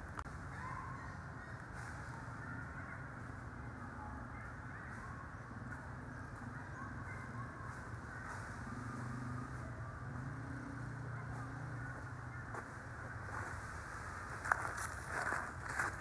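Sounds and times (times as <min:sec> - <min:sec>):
outdoor background hum: 0:00.0 - 0:16.0.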